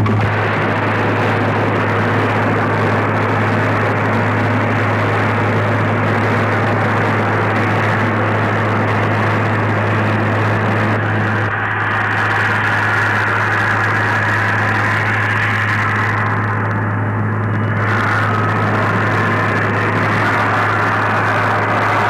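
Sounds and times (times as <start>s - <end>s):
low hum: 0.0s - 22.0s
steam hissing: 0.0s - 22.0s.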